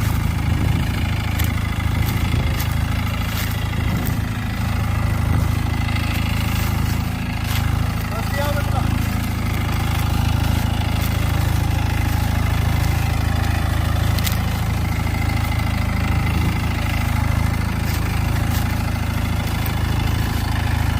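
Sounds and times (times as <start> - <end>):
diesel tractor engine idling: 0.0 - 20.9.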